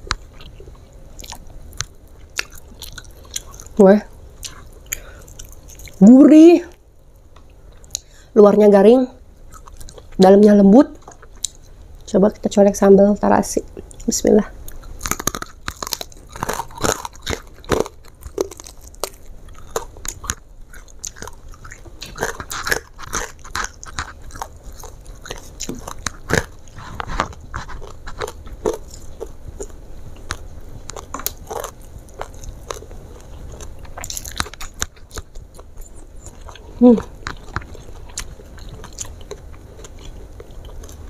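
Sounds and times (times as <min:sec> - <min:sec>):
chewing and crunching fried chicken: 0:00.0 - 0:08.3, 0:09.4 - 0:12.1, 0:13.8 - 0:41.0.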